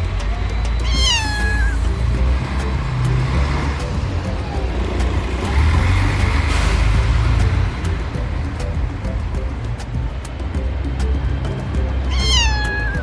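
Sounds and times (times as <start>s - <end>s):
background music with beat: 0.0s - 13.0s
engine rumbling: 0.0s - 13.0s.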